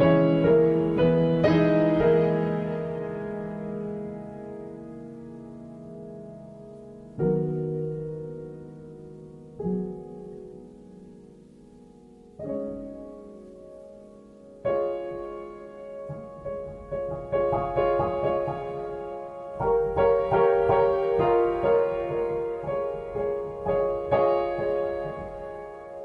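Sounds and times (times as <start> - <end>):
gentle piano chords: 0.0 - 26.0.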